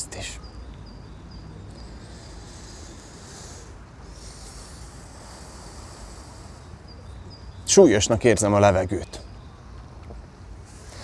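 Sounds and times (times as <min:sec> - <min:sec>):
soft high hiss: 0:00.0 - 0:11.0.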